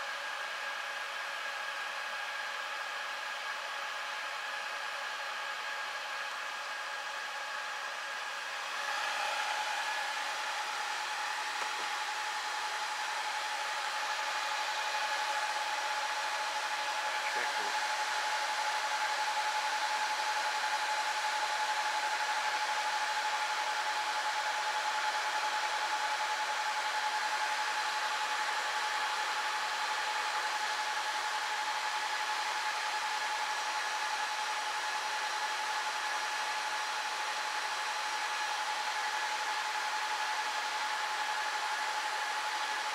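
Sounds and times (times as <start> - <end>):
server cooling fans whining: 0.0 - 42.9.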